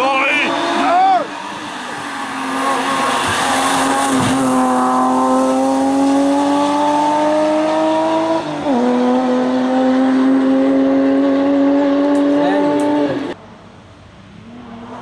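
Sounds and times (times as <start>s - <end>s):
rally car engine accelerating hard: 0.3s - 13.4s.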